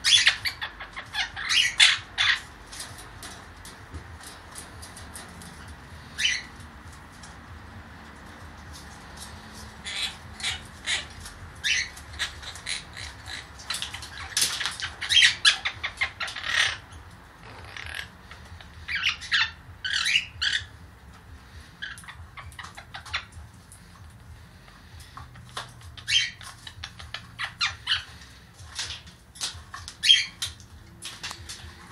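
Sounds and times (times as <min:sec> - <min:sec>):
parrot chirping and squawking: 0:00.0 - 0:07.4, 0:08.2 - 0:31.9.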